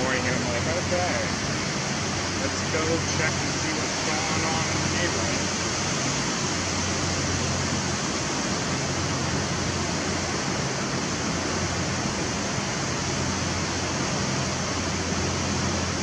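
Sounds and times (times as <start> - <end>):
ocean surf washing on beach: 0.0 - 16.0.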